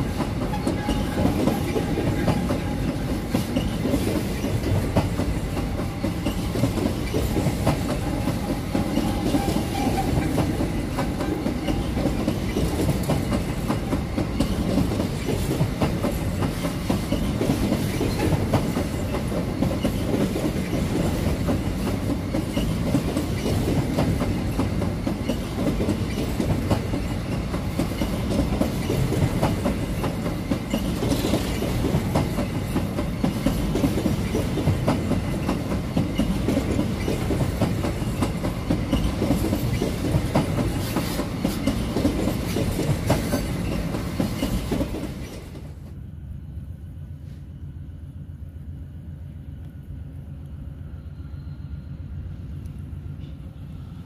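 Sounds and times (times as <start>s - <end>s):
clickety-clack over rail joints: 0.0s - 46.0s
steel wheels rumbling on rail: 0.0s - 54.0s.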